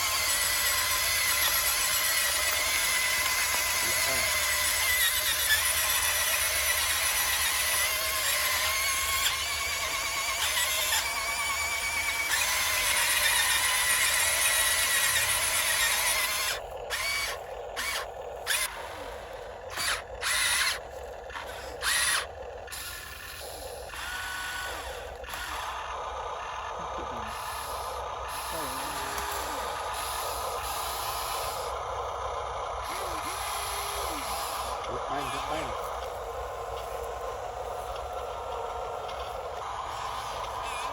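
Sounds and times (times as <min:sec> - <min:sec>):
toy truck motor whining: 0:00.0 - 0:40.9.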